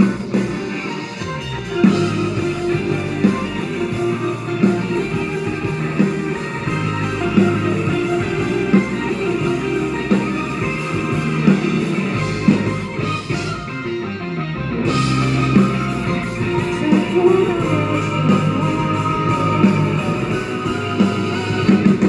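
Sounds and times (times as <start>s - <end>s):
steady beat: 0.0s - 13.6s, 14.9s - 22.0s
guitar: 0.0s - 22.0s
live band instrumental music: 0.0s - 22.0s.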